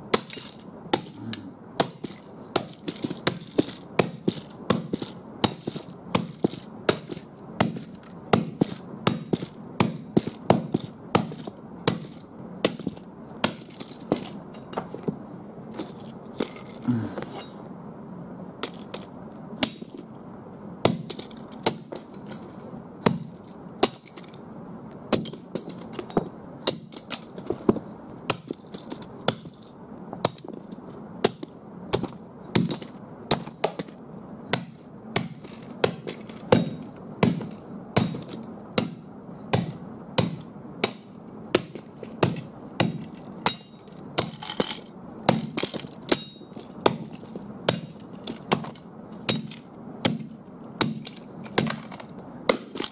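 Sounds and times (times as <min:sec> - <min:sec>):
hatchet chopping toy car: 0:00.1 - 0:15.0, 0:18.6 - 0:20.0, 0:20.8 - 0:24.4, 0:25.1 - 0:52.9.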